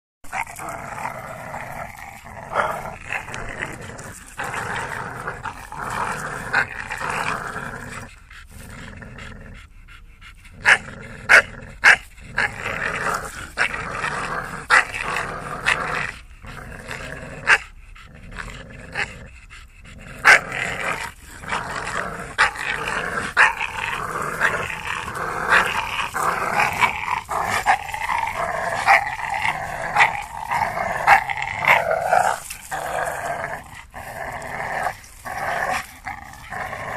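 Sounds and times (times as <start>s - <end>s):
dogs growling in play: 0.2s - 36.9s.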